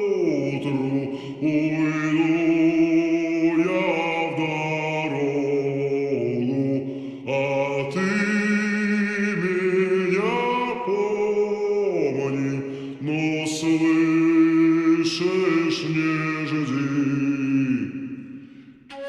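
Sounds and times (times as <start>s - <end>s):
slowed reverberant singing: 0.0s - 19.0s.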